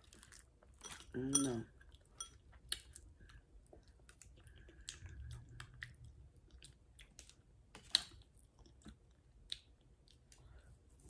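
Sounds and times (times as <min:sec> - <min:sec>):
person chewing food: 0:00.0 - 0:10.9.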